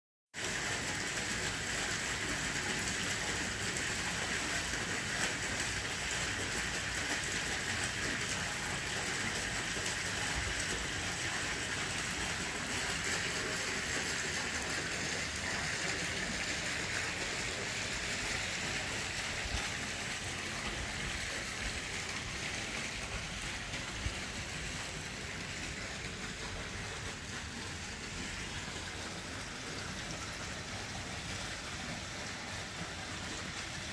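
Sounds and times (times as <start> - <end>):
running water hiss: 0.4 - 33.9.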